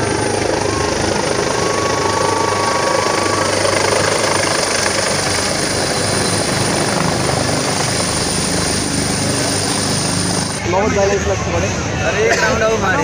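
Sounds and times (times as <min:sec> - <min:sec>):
high whine: 0:00.0 - 0:10.8
helicopter rotor and engines: 0:00.0 - 0:13.0.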